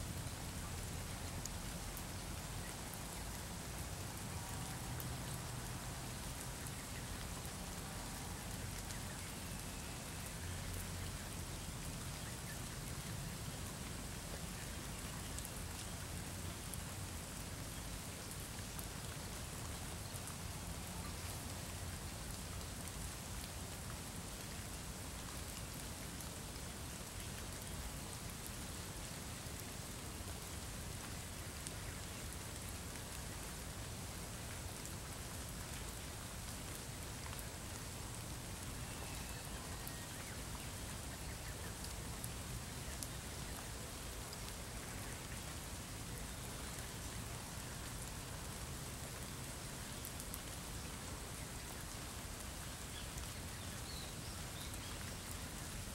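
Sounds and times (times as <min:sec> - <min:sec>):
rain on stone paving: 0:00.0 - 0:55.9.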